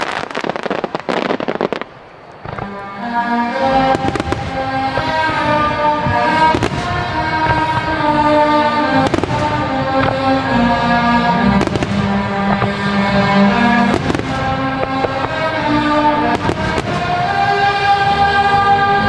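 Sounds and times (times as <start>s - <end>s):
fireworks bangs: 0.0s - 19.0s
loud music with held notes: 3.5s - 19.0s.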